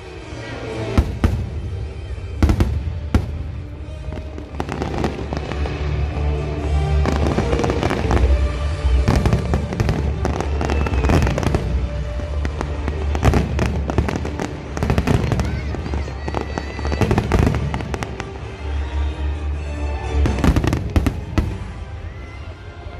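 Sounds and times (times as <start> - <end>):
fireworks crackling: 0.0 - 22.6.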